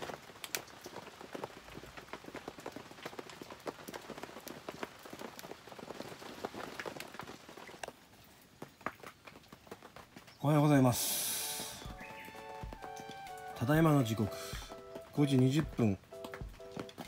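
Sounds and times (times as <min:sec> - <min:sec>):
heavy rain falling: 0:00.0 - 0:17.0
raindrop taps: 0:00.0 - 0:17.0.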